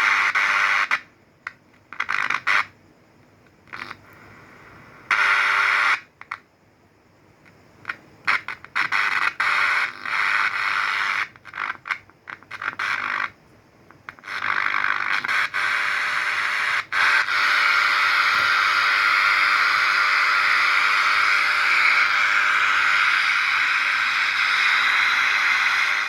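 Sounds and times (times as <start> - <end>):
radio static hiss with crackles: 0.0 - 6.5, 7.2 - 26.0.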